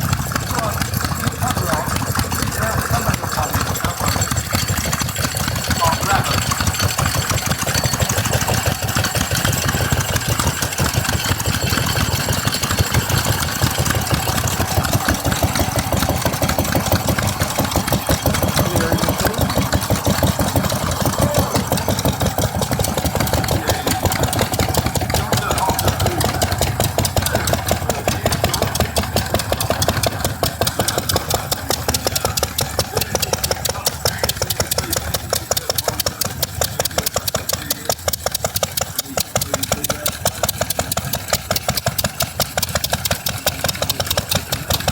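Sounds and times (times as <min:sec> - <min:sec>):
stationary engine running: 0:00.0 - 0:44.9.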